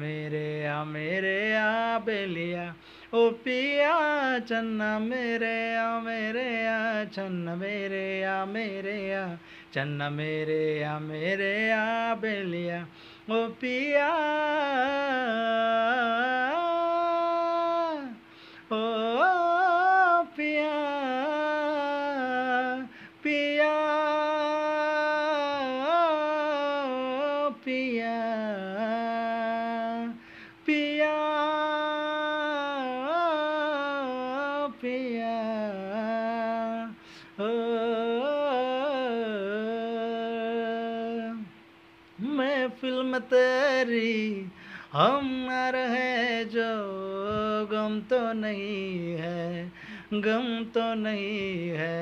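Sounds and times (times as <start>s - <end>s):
man singing wordless melody: 0.0s - 52.0s.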